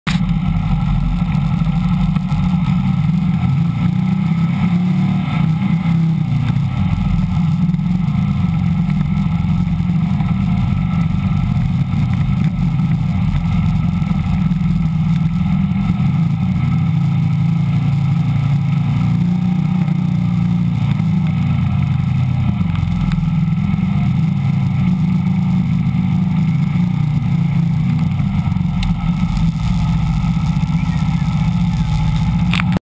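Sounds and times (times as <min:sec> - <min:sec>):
dune buggy engine running: 0:00.1 - 0:32.8.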